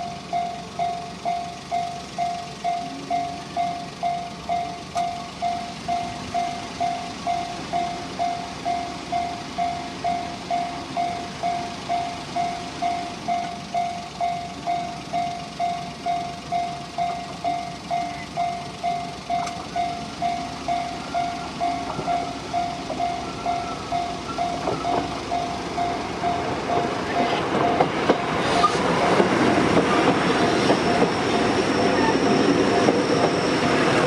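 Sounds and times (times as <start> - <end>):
level crossing bell dinging: 0.0 - 27.9
train approaching: 0.0 - 34.0.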